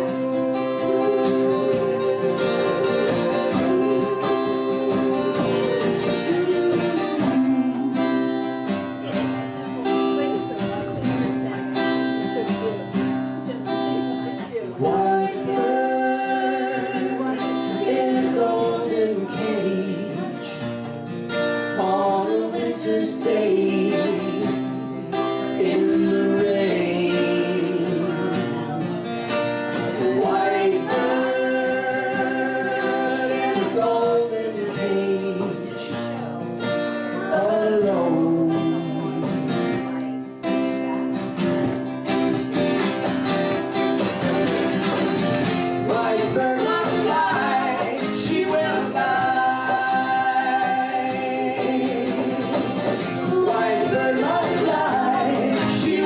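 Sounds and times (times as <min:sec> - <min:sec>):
person singing: 0:00.0 - 0:08.8, 0:13.4 - 0:20.8, 0:21.6 - 0:29.1, 0:29.8 - 0:36.3, 0:37.1 - 0:40.1, 0:44.1 - 0:56.0
strummed acoustic guitar: 0:00.0 - 0:56.0.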